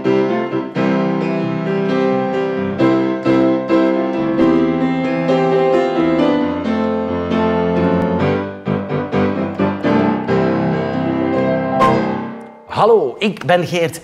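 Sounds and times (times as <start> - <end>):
grand piano chords: 0.0 - 13.3.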